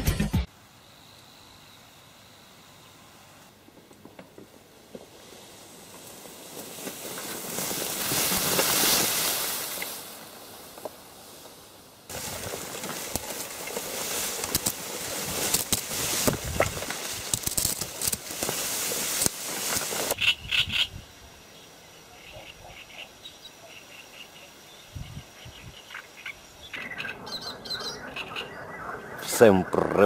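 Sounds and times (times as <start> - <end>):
tall grass rustling: 1.8 - 28.4.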